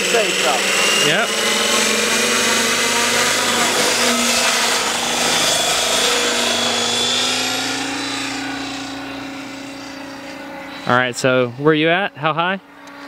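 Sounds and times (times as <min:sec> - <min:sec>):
helicopter motor whine and rotors: 0:00.0 - 0:13.0.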